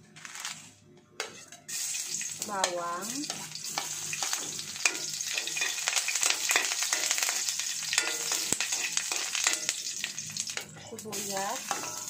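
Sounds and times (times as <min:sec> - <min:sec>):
metal spatula scraping a pan: 0:01.2 - 0:12.0
garlic frying in a wok: 0:01.7 - 0:12.0.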